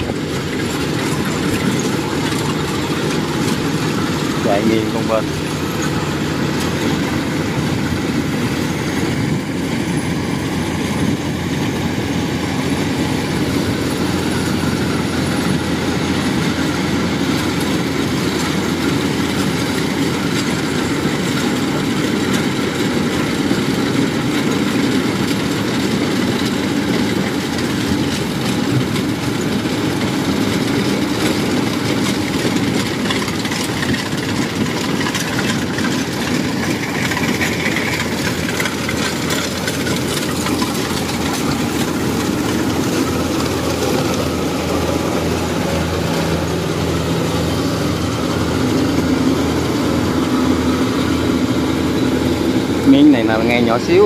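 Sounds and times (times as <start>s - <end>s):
clatter of threshing machinery: 0.0s - 54.0s
combine harvester diesel engine: 0.0s - 54.0s.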